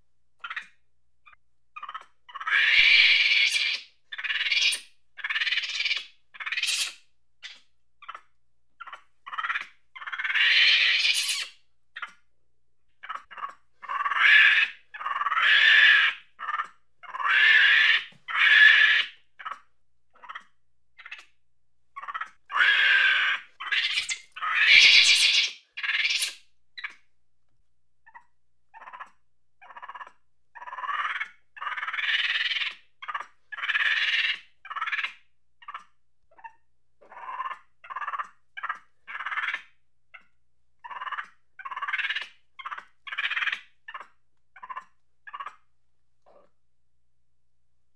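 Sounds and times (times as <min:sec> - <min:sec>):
monkey chattering: 0:01.8 - 0:12.2, 0:13.0 - 0:21.3, 0:22.0 - 0:27.0, 0:28.1 - 0:45.6.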